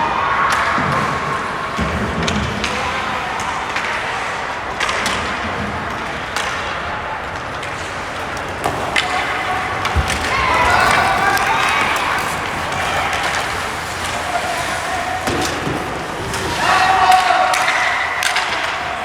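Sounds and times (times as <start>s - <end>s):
hockey sticks and puck clacking: 0.0s - 19.0s
rink and crowd noise: 0.0s - 19.0s.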